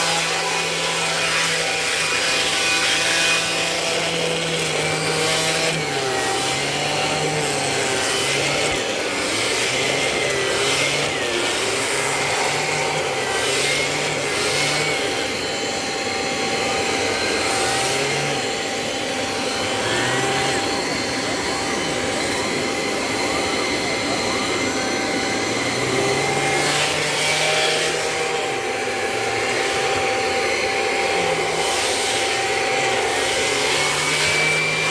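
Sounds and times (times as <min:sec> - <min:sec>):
vacuum cleaner humming: 0:00.0 - 0:34.9.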